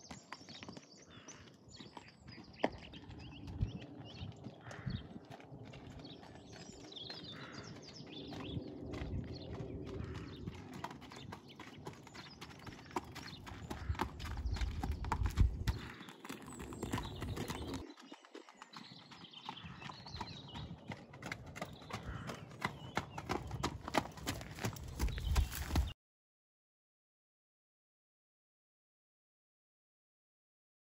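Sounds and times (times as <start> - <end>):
horse hooves on gravel: 0.0 - 26.0.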